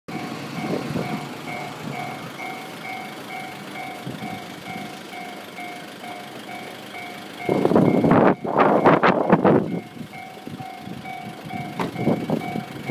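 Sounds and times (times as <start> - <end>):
level crossing bell ringing: 0.1 - 12.9
train rushing past: 0.1 - 12.9.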